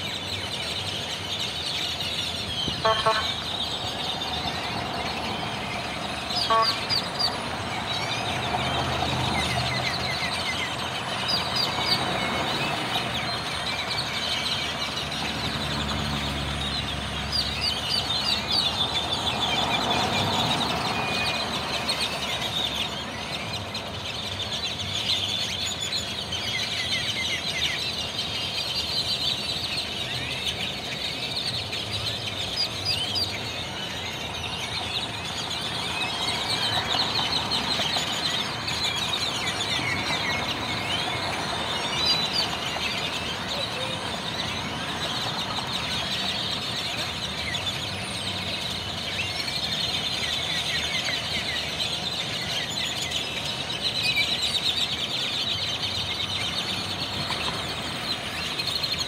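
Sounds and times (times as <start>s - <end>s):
flock of blackbirds chattering: 0.0s - 59.0s.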